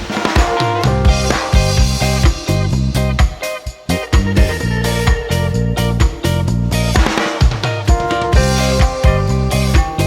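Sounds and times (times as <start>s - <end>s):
band music with drums bass and guitar: 0.0s - 10.0s
bass drum and snare beat: 0.0s - 10.0s.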